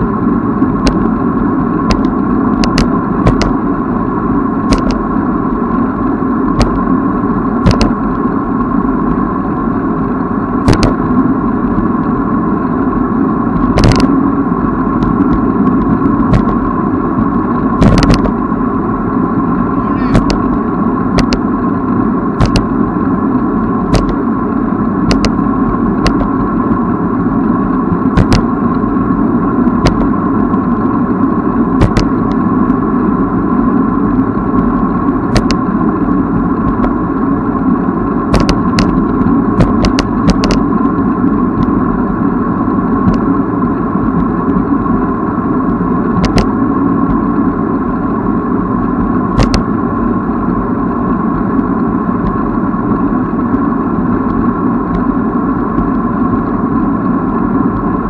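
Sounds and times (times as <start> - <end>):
wind on microphone: 0.0 - 47.6
bicycle rolling noise: 0.0 - 48.2.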